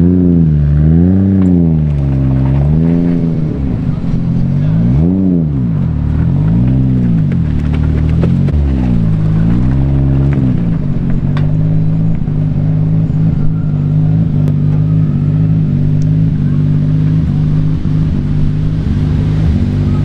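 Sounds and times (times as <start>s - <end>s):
car engine running under power: 0.0s - 20.0s.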